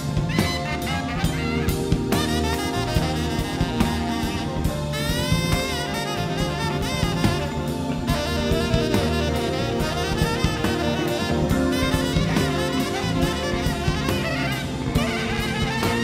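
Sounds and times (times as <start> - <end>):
drum kit: 0.0 - 16.0
electric bass: 0.0 - 16.0
tenor saxophone jazz solo: 0.0 - 16.0.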